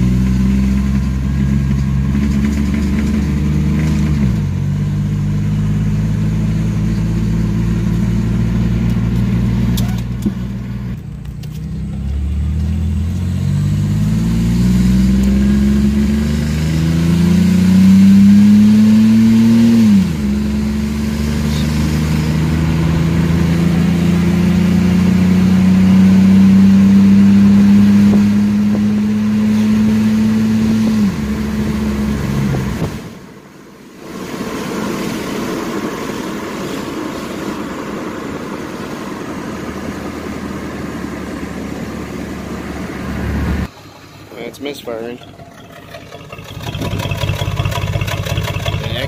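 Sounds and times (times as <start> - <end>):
engine revving and idling roughly: 0.0 - 10.9, 11.8 - 33.0, 39.3 - 49.0.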